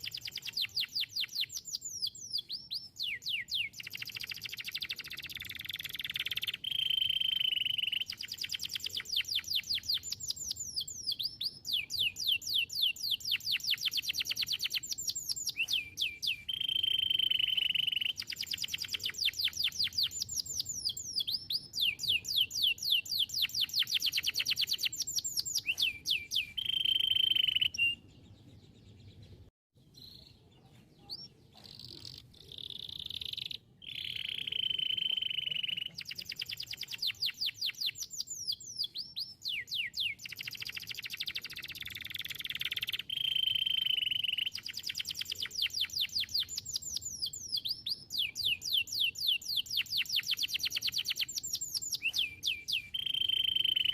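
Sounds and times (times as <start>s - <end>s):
canary singing: 0.0s - 53.9s
faint chirps: 0.0s - 53.9s.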